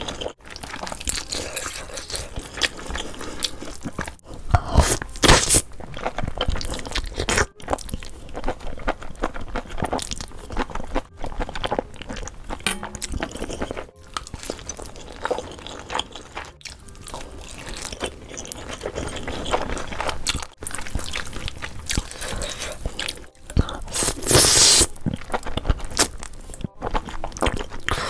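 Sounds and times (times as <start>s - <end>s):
chewing and slurping noodles: 0.0s - 28.0s.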